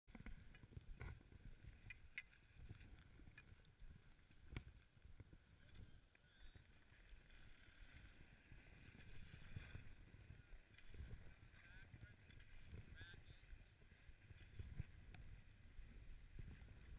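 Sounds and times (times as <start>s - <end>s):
skis sliding over packed snow: 0.1s - 16.9s.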